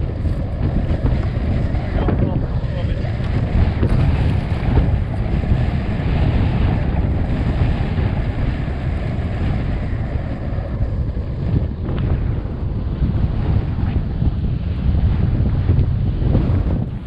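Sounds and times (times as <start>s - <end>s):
gusting wind buffeting microphone: 0.0s - 17.0s.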